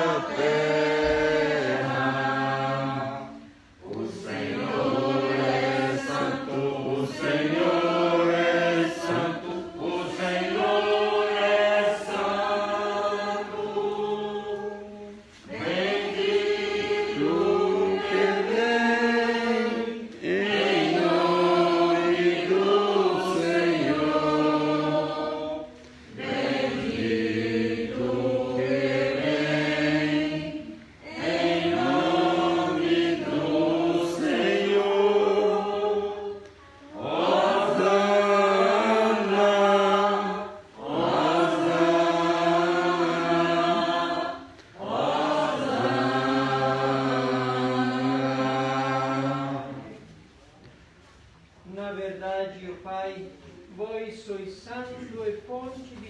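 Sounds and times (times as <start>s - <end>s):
choir singing a hymn: 0.0s - 50.2s.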